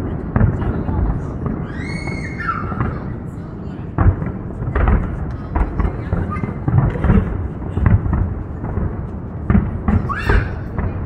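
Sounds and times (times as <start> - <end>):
fireworks booming: 0.0 - 11.0
people's voices: 0.0 - 11.0.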